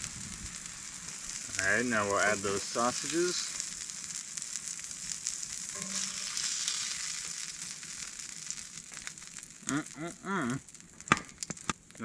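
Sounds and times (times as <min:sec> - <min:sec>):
sausage patties sizzling in a skillet: 0:00.0 - 0:12.0.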